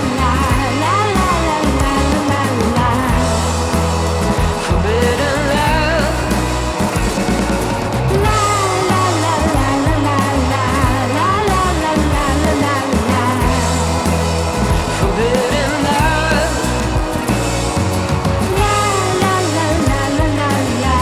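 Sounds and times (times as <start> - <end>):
song with sung vocal melody: 0.0 - 21.0
steady bass line: 0.0 - 21.0.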